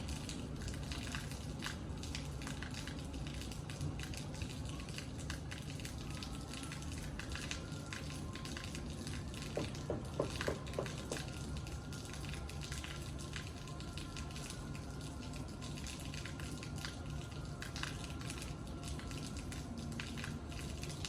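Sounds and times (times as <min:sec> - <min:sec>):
rain patter and drips: 0:00.0 - 0:21.0.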